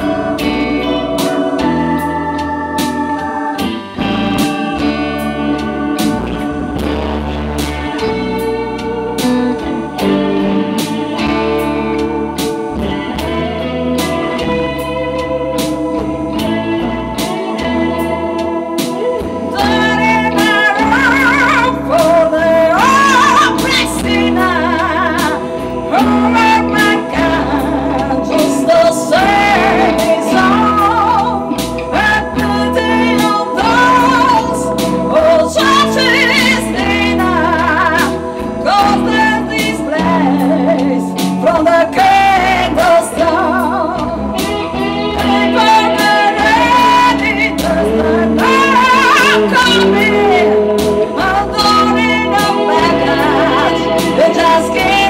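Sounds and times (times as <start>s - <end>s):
blues band playing: 0.0s - 55.0s
organ sustained chords: 0.0s - 55.0s
person singing: 0.0s - 55.0s.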